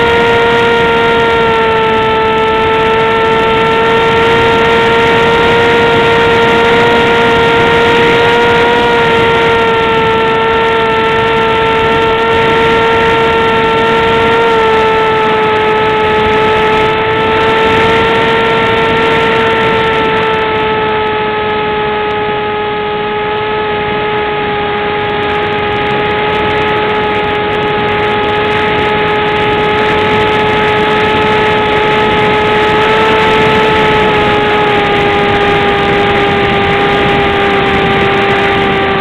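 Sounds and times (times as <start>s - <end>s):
model plane motor droning: 0.0s - 39.0s.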